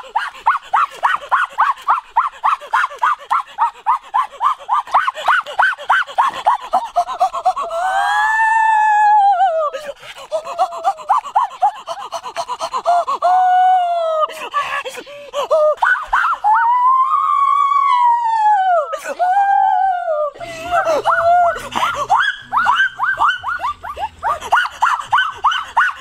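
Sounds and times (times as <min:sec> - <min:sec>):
high-pitched excited cries: 0:00.0 - 0:26.0.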